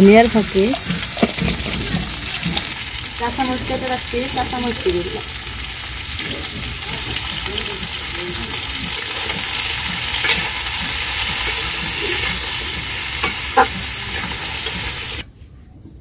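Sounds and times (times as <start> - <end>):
potatoes sizzling in oil: 0.0 - 15.2.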